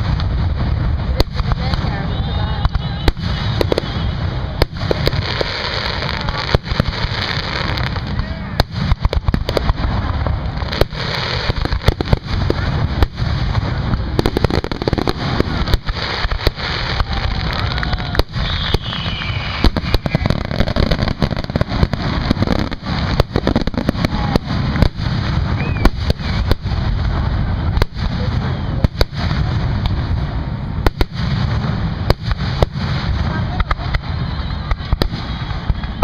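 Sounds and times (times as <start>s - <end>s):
fireworks rumbling crackle: 0.0s - 36.0s
firework shells bursting: 1.1s - 30.1s.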